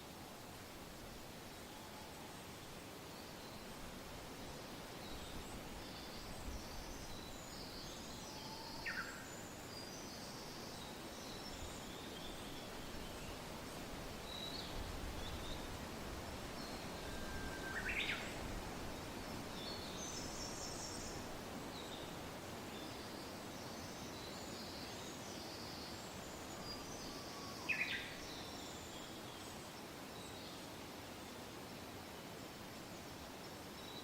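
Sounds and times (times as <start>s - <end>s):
soft wind: 0.0s - 34.0s.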